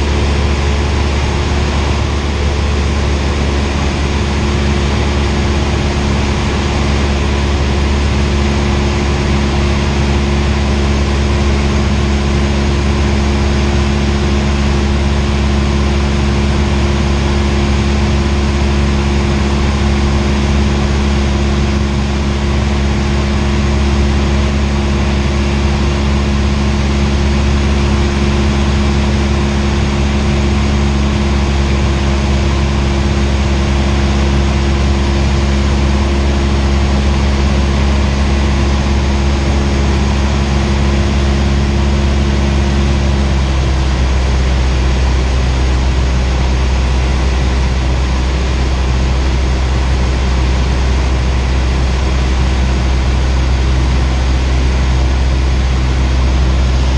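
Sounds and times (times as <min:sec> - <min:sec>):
light aircraft engine in flight: 0:00.0 - 0:56.9.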